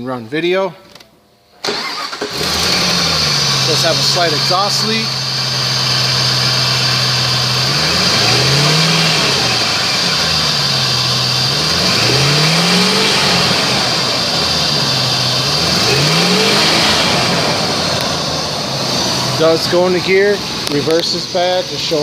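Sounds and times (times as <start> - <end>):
car engine idling and revving: 1.7 - 22.0.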